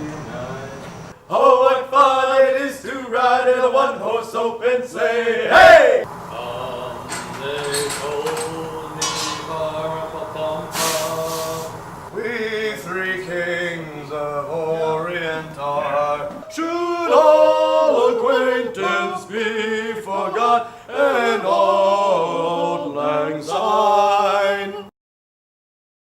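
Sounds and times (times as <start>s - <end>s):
man singing unaccompanied: 1.2s - 24.9s.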